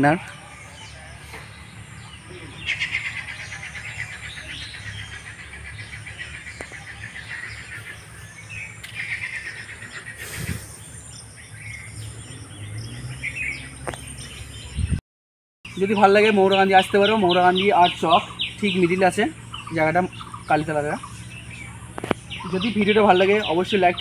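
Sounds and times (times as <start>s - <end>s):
small birds trilling: 0.0s - 15.0s, 15.7s - 24.0s.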